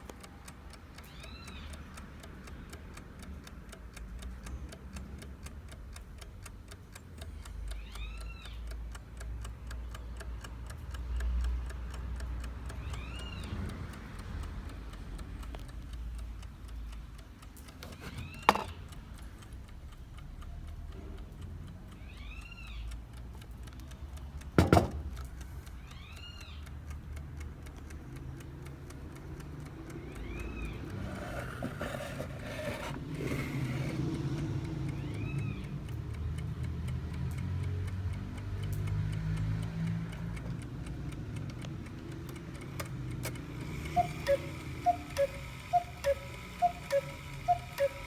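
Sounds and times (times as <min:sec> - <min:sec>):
alarm clock ticking: 0:00.0 - 0:48.0
sharp clicks: 0:00.0 - 0:48.0.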